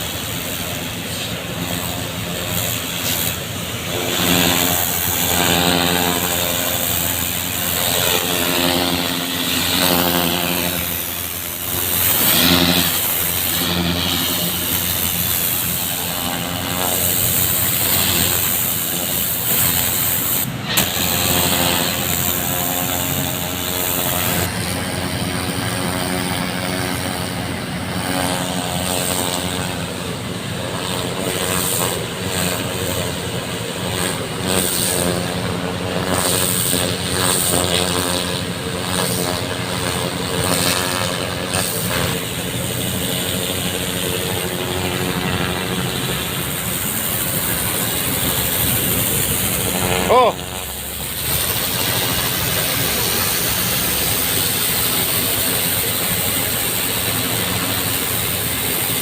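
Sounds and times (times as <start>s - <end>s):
water jetting from hose: 0.0s - 29.9s, 30.5s - 59.0s
engine running: 0.0s - 59.0s.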